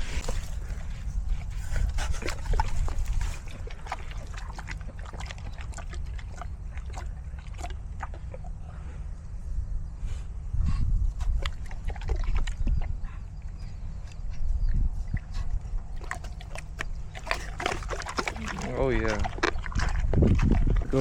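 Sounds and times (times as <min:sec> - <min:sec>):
pig chewing and smacking: 0:00.0 - 0:09.2, 0:10.8 - 0:21.0
steady low rumble: 0:00.0 - 0:21.0.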